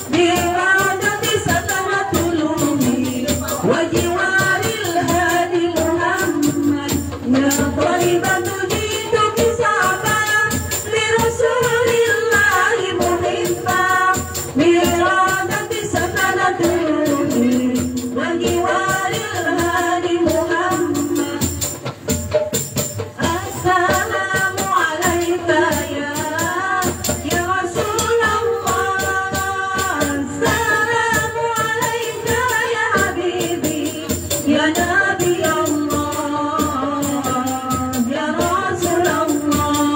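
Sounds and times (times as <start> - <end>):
frame drums with jingles: 0.0 - 39.9
women singing devotional song: 0.0 - 39.9.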